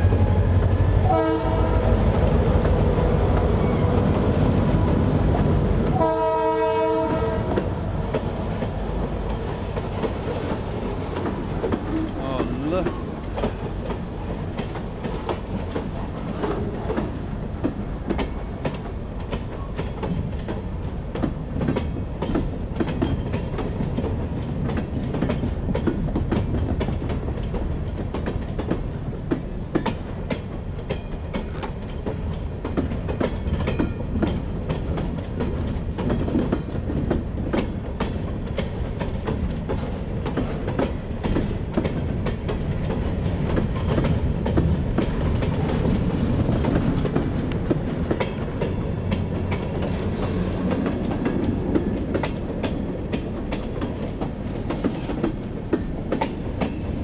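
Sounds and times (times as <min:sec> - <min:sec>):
train wheels clicking and clacking: 0:00.0 - 0:57.0
train wheels rumbling on rail: 0:00.0 - 0:57.0.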